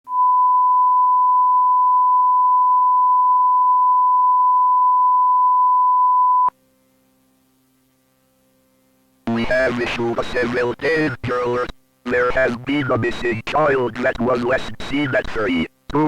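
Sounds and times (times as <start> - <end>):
faint hum: 0.1 - 16.0.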